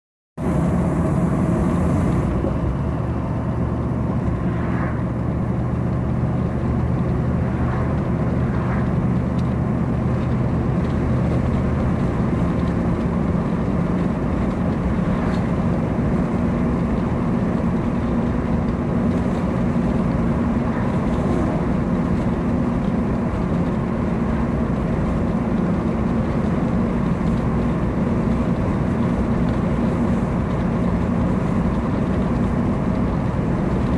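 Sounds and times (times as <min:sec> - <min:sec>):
low engine hum: 0:00.4 - 0:33.9.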